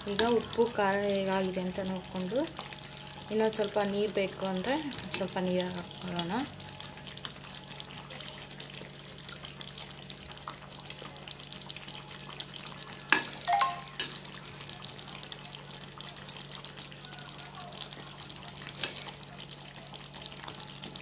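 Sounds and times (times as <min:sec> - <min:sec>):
curry bubbling in a pot: 0:00.0 - 0:21.0.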